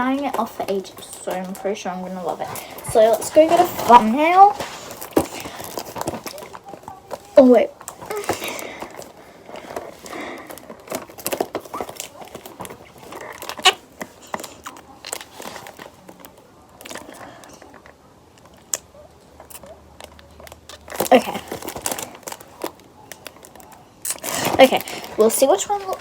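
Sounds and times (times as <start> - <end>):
rustling and crinkling handling: 0.0 - 26.0.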